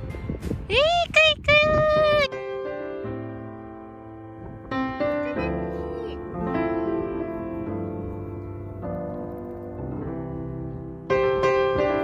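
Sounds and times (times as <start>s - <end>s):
soft piano chords: 2.2s - 12.0s.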